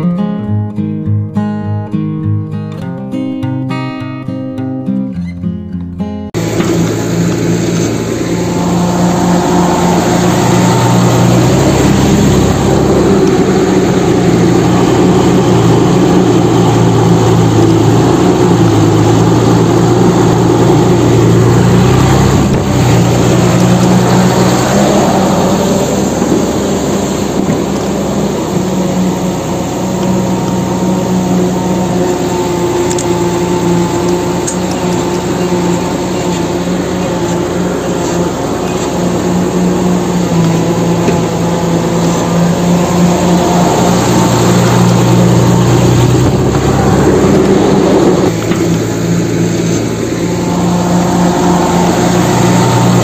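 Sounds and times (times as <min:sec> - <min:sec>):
heavy machinery drone: 0:06.4 - 0:53.0.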